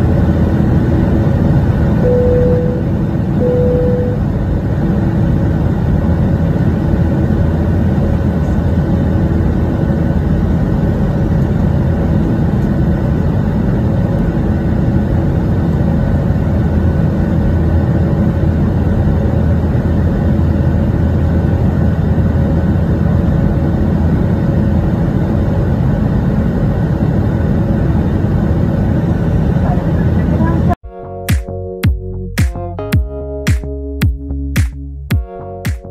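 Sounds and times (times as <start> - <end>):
aircraft engines and airflow rumble: 0.0 - 30.8
faint hum tones: 0.0 - 30.8.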